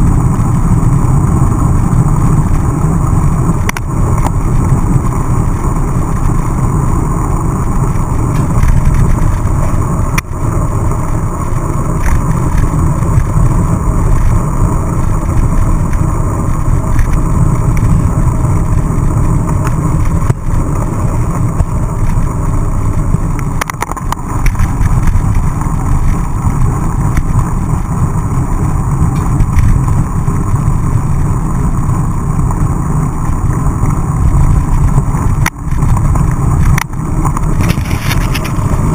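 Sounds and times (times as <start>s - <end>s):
bike tyres on wet road: 0.0s - 38.9s
wind on microphone: 0.0s - 38.9s.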